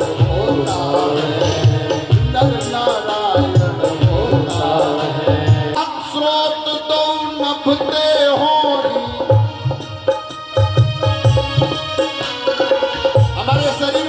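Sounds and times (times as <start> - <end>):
person singing over loudspeaker: 0.0 - 14.0
steady drum beats: 0.0 - 14.0.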